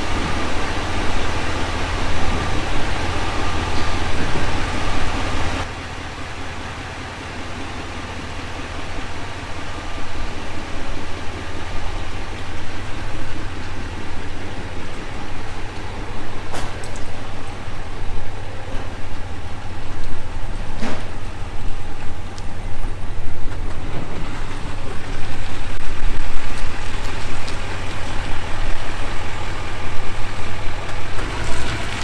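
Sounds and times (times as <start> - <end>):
vehicle running with low hum: 0.0 - 32.0.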